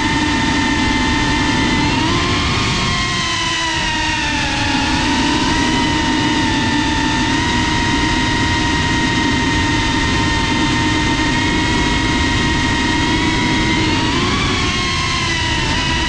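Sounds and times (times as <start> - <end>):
drone motors whining: 0.0 - 16.0
wind noise: 0.0 - 16.0.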